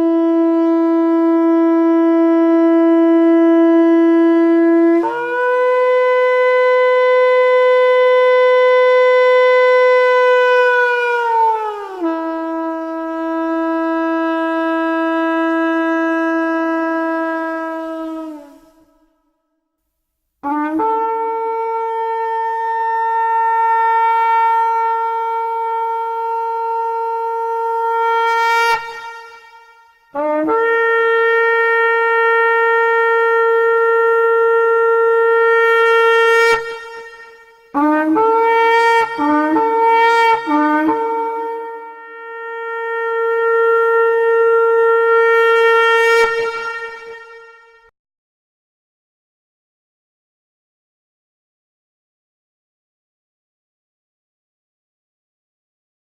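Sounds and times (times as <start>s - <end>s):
horn blasts: 0.0s - 19.1s, 20.4s - 47.9s.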